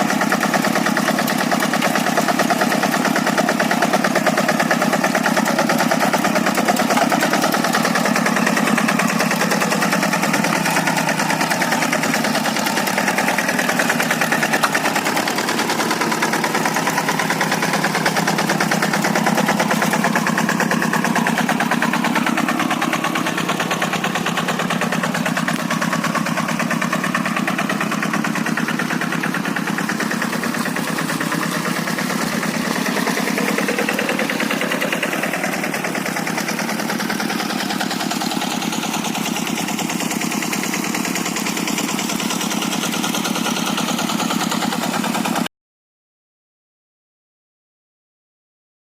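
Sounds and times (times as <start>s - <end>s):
diesel engine chugging: 0.0s - 45.5s.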